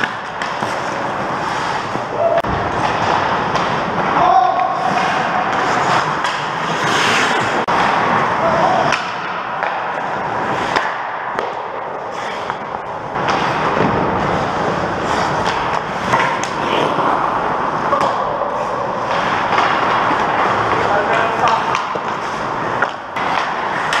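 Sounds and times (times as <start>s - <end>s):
hockey sticks and puck clacking: 0.0s - 24.0s
skate blades scraping ice: 0.0s - 24.0s.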